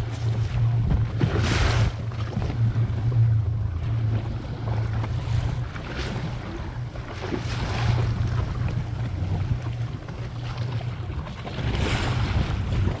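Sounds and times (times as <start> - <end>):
boat engine running: 0.0 - 13.0
wind: 0.0 - 13.0.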